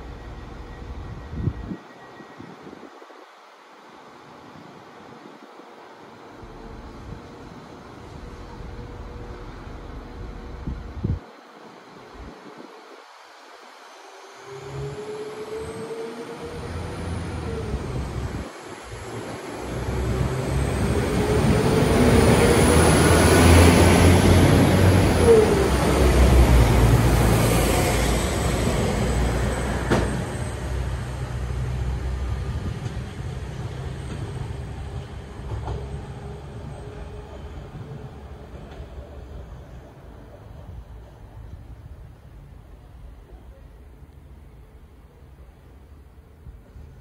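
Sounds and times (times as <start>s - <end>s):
train rumbling past: 0.0s - 47.0s.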